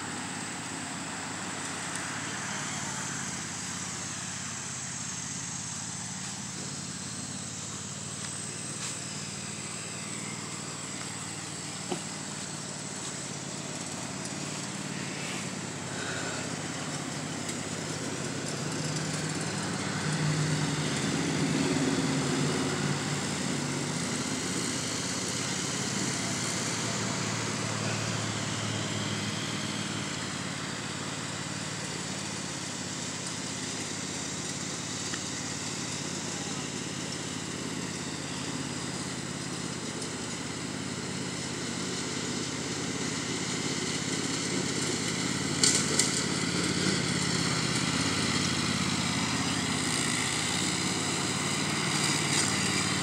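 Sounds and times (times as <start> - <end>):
riding lawn mower engine: 0.0 - 53.0.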